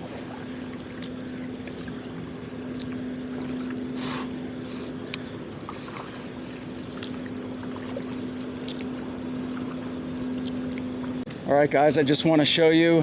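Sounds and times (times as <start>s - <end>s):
paddle splashing water: 0.0s - 11.2s
low mechanical hum: 0.0s - 13.0s.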